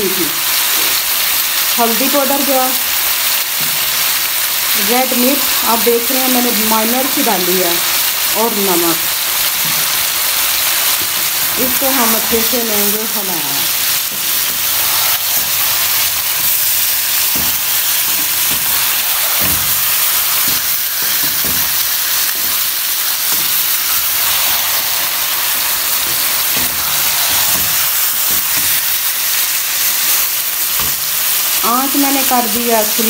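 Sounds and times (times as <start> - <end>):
chicken sizzling in hot oil: 0.0 - 33.0.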